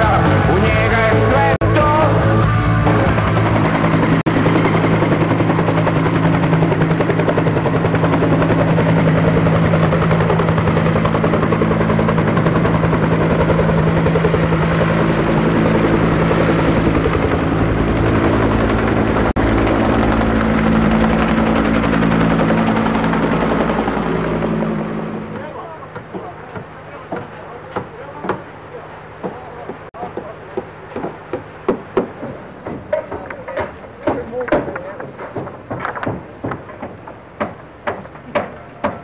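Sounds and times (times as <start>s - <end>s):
helicopter motor drone: 0.0s - 39.0s.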